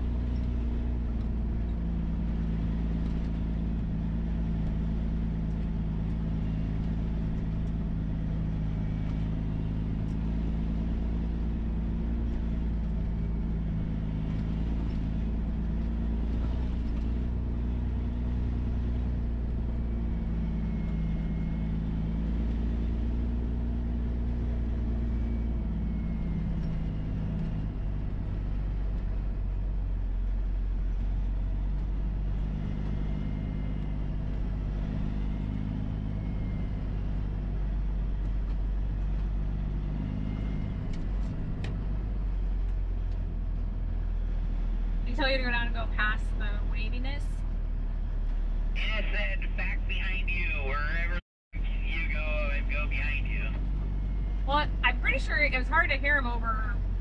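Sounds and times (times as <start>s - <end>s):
dump truck diesel engine running: 0.0s - 57.0s.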